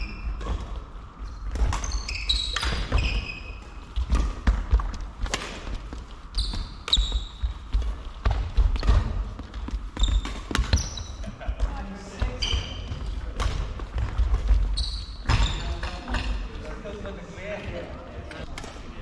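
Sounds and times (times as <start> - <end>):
shoes squeaking: 0.0 - 13.4, 14.1 - 16.4.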